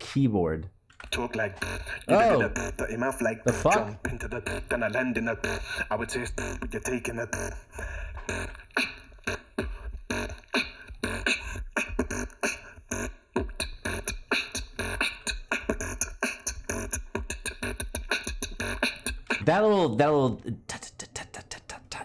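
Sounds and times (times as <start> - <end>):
beatboxing mouth percussion: 1.0 - 19.7, 20.4 - 22.0.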